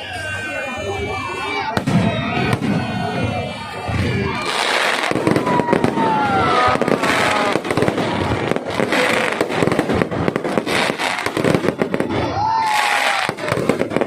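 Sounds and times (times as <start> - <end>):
fireworks bangs and pops: 0.2 - 14.0.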